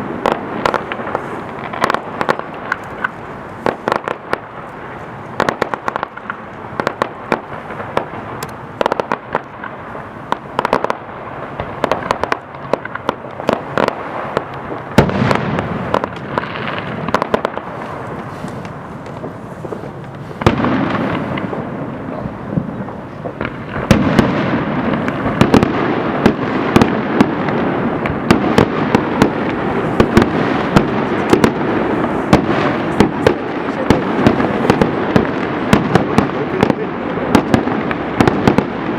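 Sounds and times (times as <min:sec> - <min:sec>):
fireworks bangs: 0:00.0 - 0:38.9
fireworks crackling rumble: 0:00.0 - 0:38.9.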